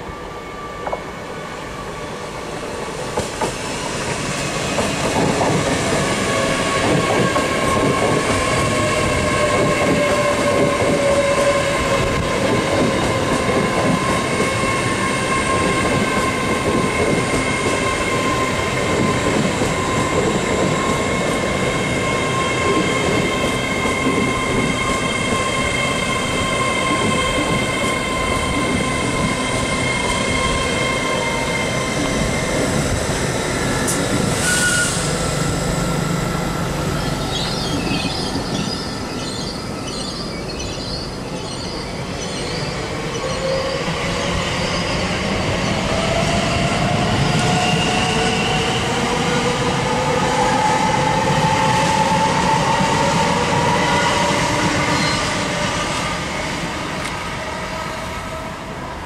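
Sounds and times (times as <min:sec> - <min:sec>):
train wheels rumbling and clattering: 0:02.7 - 0:58.9.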